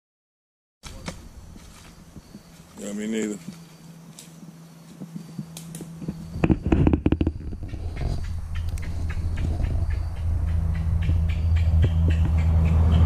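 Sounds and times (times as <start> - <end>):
low steady rumble: 1.1 - 13.0.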